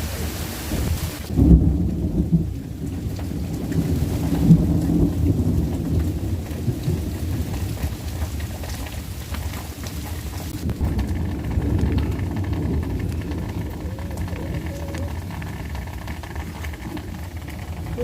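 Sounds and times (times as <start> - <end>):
light rain: 0.0 - 18.0
thunder rumbling: 0.0 - 18.0.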